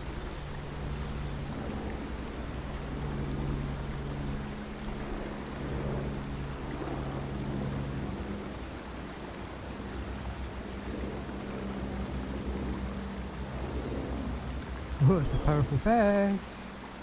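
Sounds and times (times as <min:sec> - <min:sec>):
low steady hum: 0:00.0 - 0:17.0
river flowing: 0:00.0 - 0:17.0.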